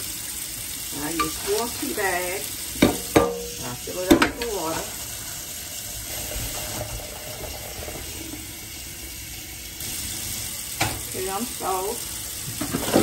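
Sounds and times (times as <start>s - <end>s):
faucet filling a metal saucepan: 0.0s - 13.0s.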